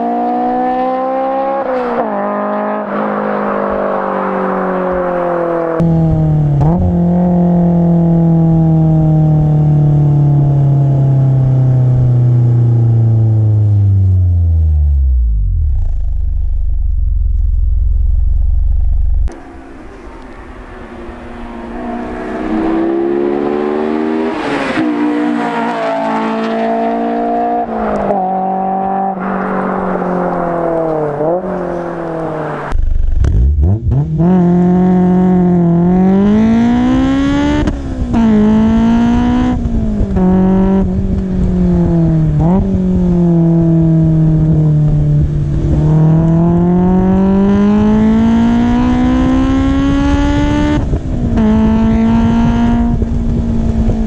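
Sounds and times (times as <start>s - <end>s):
car engine revving through gears: 0.0s - 13.2s, 19.3s - 54.0s.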